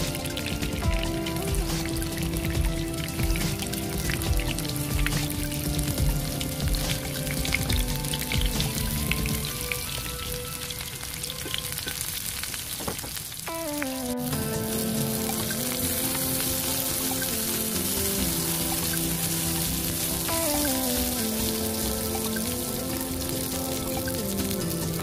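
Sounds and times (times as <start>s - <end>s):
gentle background melody: 0.0s - 12.9s, 13.5s - 25.0s
eggplant sizzling in hot oil: 0.0s - 25.0s.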